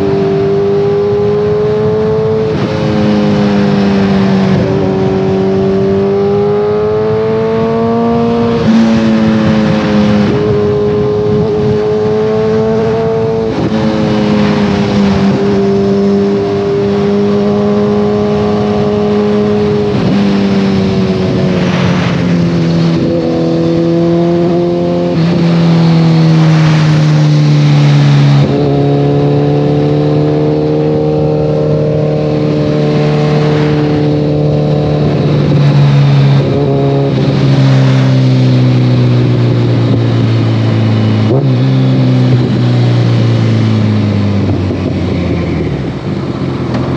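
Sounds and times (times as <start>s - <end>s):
motorcycle engine riding: 0.0s - 46.9s.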